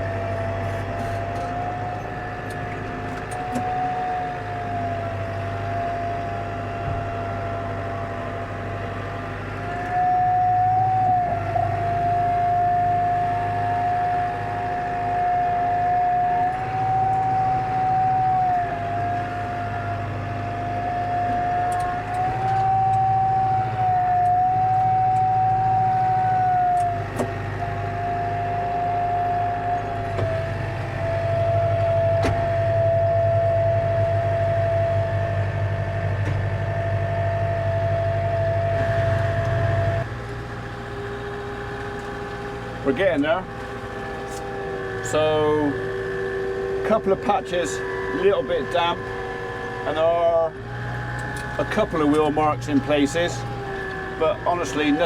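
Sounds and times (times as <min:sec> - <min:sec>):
high drivetrain whine: 0:00.0 - 0:55.0
tractor engine running: 0:00.0 - 0:55.0.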